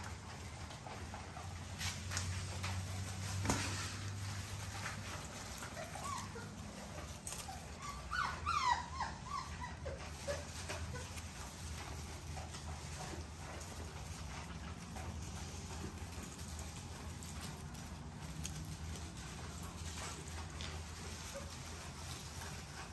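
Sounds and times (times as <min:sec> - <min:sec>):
paws rustling in bedding: 0:00.0 - 0:22.9
puppies whimpering and yipping: 0:02.8 - 0:17.9, 0:18.7 - 0:22.9.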